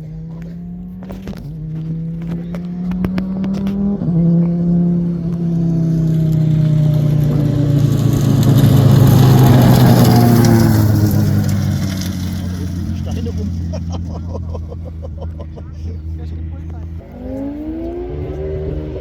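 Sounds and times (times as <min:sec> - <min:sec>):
exhaust pops: 0:00.0 - 0:19.0
race car engine passing: 0:00.0 - 0:19.0.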